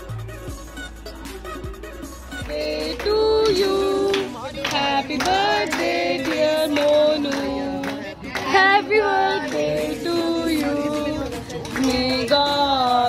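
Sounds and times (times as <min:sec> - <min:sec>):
music: 0:00.0 - 0:13.0
people clapping along: 0:02.3 - 0:13.0
group singing: 0:02.4 - 0:13.0.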